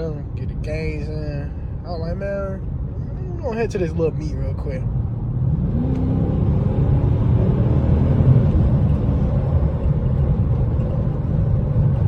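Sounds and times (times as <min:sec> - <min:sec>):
car engine heard from cabin: 0:00.0 - 0:12.0
road rumble: 0:00.0 - 0:12.0.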